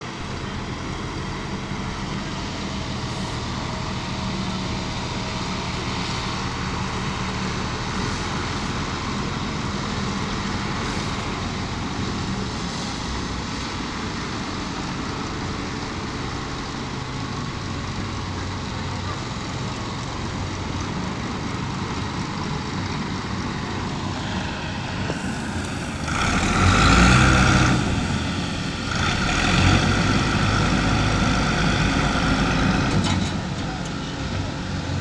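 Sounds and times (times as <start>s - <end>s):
heavy engine running: 0.0s - 35.0s.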